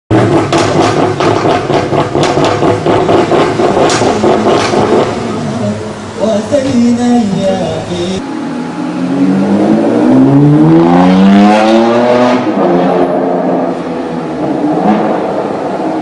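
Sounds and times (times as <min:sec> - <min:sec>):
car engine revving hard: 0:00.1 - 0:06.2, 0:08.4 - 0:16.0.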